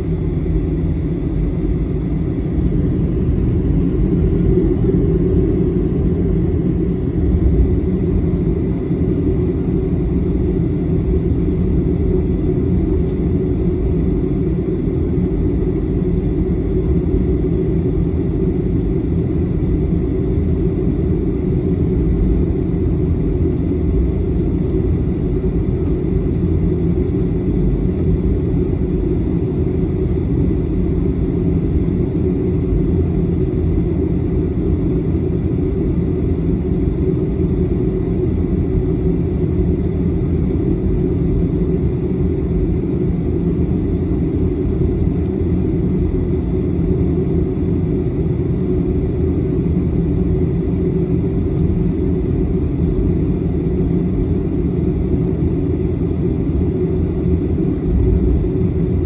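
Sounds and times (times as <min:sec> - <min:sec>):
jet engine low rumble: 0:00.0 - 0:59.0.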